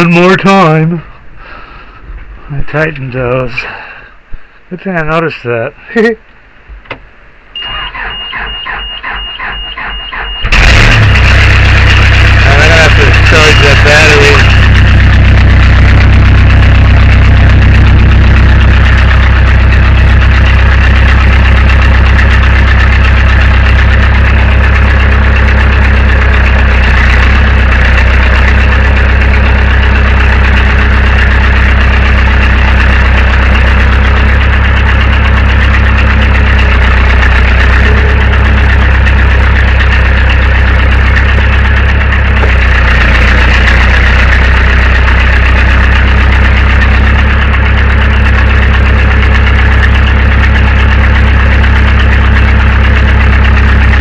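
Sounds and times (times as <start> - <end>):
backhoe engine idling: 7.6 - 54.0.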